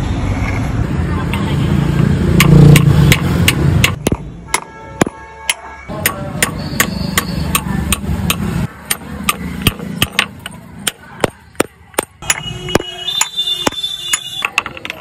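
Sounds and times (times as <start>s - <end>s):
hammer tapping metal punch on stone: 2.4s - 15.0s.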